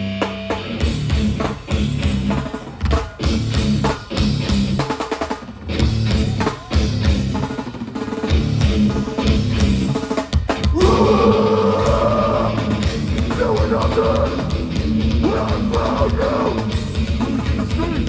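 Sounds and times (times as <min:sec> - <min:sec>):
bass guitar: 0:00.0 - 0:05.0, 0:05.6 - 0:07.6, 0:08.2 - 0:18.0
distorted guitar: 0:00.0 - 0:18.0
fast hard-hit drums: 0:00.0 - 0:18.0.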